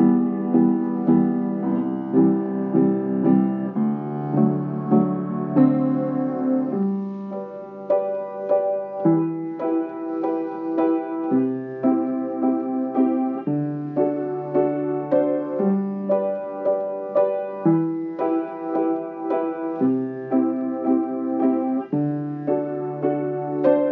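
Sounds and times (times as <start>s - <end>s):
slow piano music: 0.0s - 23.9s.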